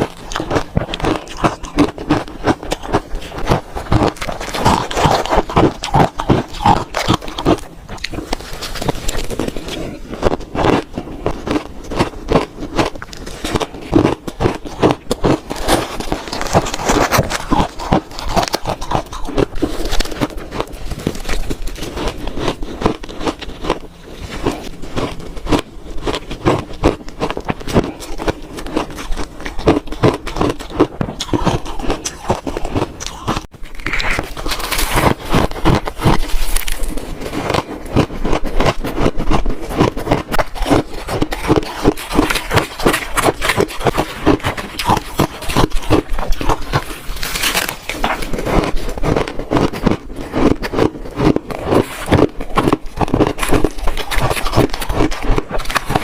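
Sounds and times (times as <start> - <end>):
crunching of shaved ice: 0.0 - 56.0.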